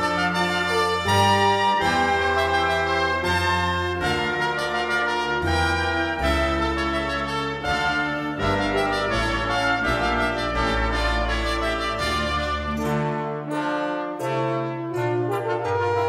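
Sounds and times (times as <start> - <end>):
brass instruments playing: 0.0 - 16.0.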